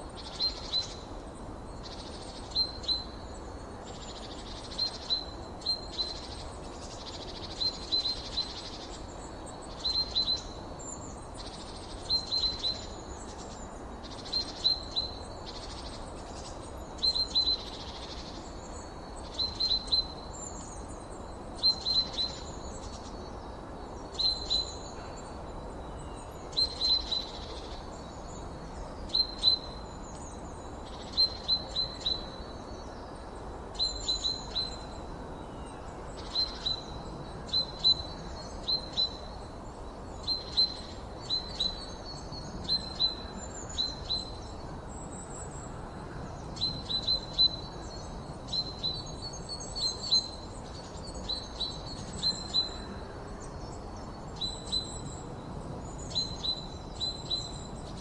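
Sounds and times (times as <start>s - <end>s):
low background hiss: 0.0s - 58.0s
songbirds chirping: 0.0s - 58.0s.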